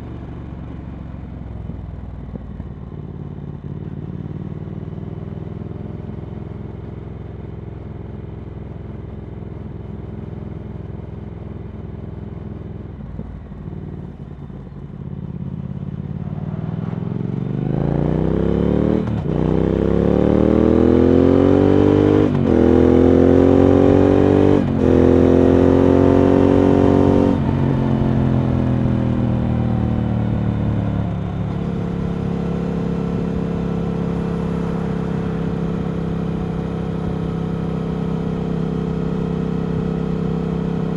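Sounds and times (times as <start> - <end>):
motorcycle engine accelerating: 0.0 - 9.2, 12.0 - 40.9.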